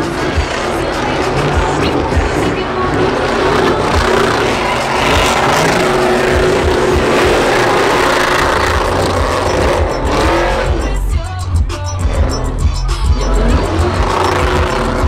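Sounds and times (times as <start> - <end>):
truck engine at high revs: 0.0 - 15.0
tyres squealing on pavement: 0.0 - 15.0.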